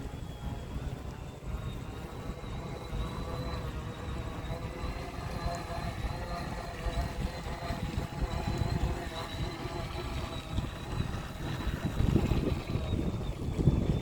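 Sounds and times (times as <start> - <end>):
faint steady whine: 0.0 - 14.0
wind buffeting microphone: 0.0 - 14.0.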